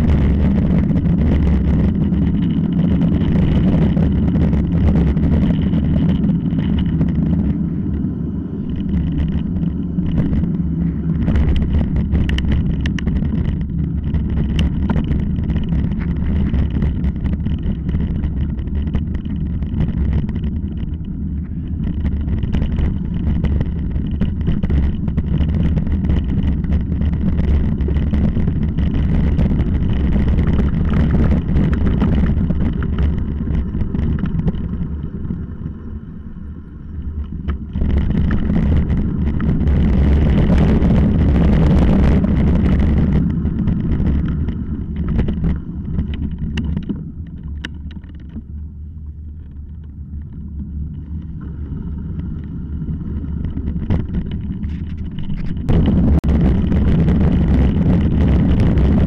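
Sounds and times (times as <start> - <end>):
bike rattling over gravel: 0.0 - 59.0
wind and tyre rumble: 0.0 - 59.0.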